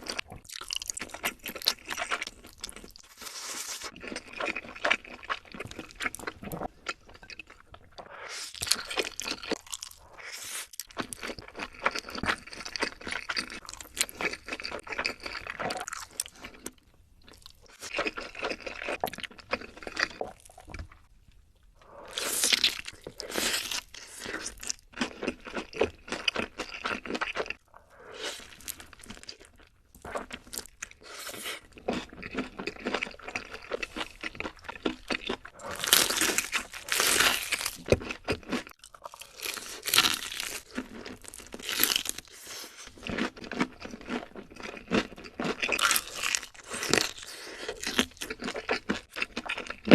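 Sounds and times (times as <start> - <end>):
crunchy chewing of fried food: 0.0 - 21.1, 21.7 - 49.9.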